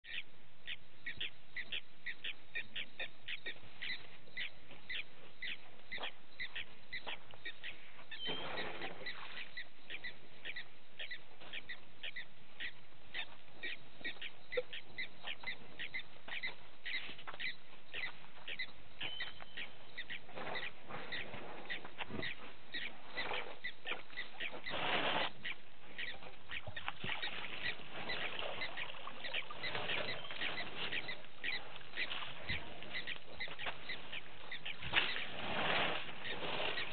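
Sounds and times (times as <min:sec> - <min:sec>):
frogs calling: 0:00.1 - 0:36.9.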